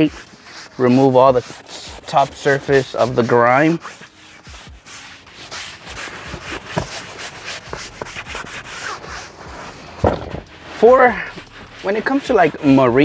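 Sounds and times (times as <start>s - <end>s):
towel scrubbing vinyl seat: 0.0s - 13.0s.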